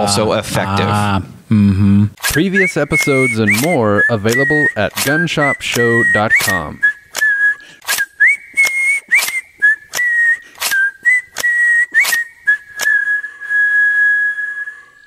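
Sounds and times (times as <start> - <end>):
whistled tune: 2.2 - 15.0.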